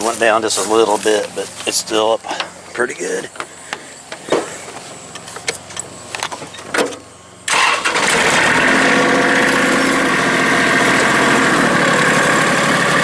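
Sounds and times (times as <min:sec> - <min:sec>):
tractor engine starting and running: 0:00.0 - 0:13.0.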